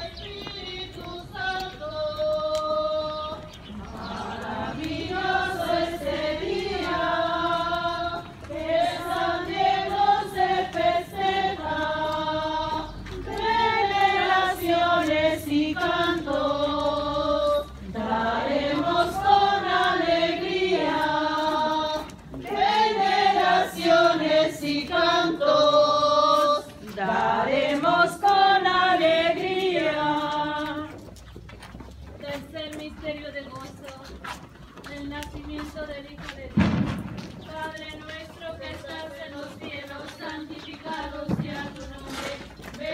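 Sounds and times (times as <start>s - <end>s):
crowd singing a hymn: 0.0s - 31.1s, 36.6s - 42.9s.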